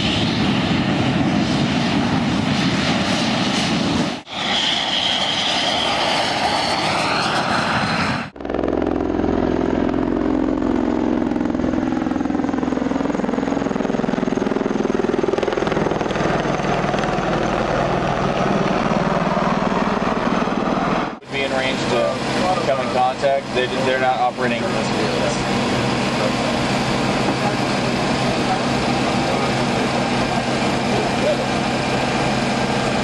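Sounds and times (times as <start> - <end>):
aircraft engine low drone: 0.0 - 33.0
aircraft engine rush and whine: 0.0 - 33.0.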